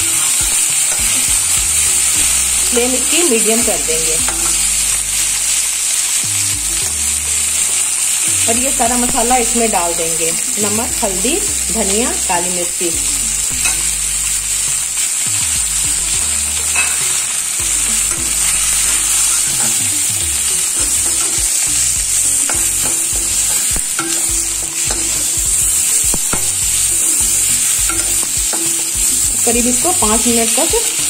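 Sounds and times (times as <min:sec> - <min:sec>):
masala sizzling in oil: 0:00.0 - 0:31.0.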